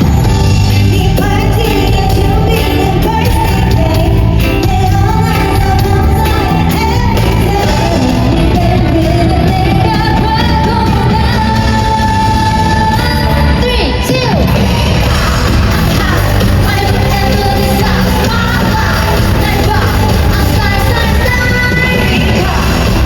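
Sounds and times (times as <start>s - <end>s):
pop backing track: 0.0s - 23.0s
female voices singing: 0.8s - 23.0s.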